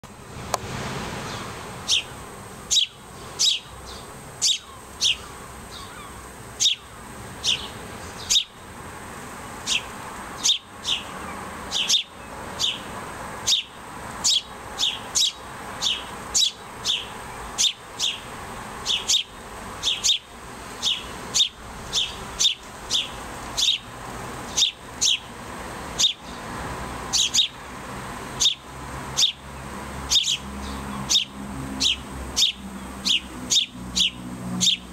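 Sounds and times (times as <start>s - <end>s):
sparrow fledglings cheeping: 1.2s - 8.6s, 9.6s - 26.5s, 27.1s - 27.6s, 28.3s - 34.9s.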